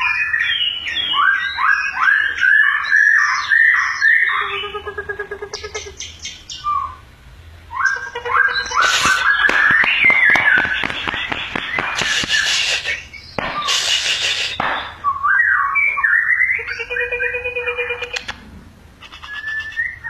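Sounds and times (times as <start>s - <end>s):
songbird singing: 0.0s - 18.4s, 19.0s - 20.0s.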